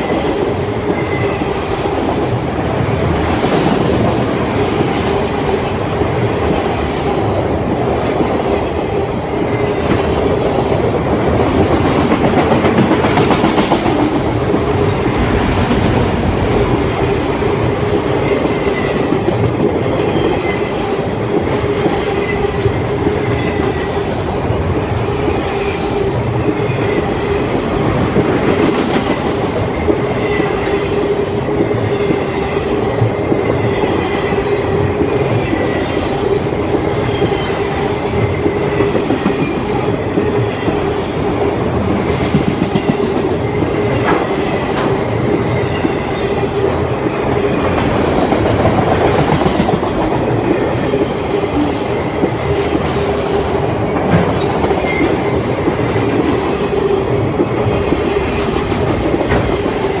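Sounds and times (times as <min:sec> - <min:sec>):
freight train wheels rumbling: 0:00.0 - 1:00.0.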